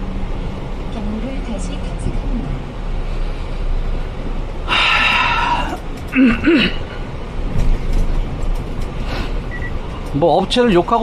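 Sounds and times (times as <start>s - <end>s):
truck diesel engine and road rumble: 0.0s - 11.0s.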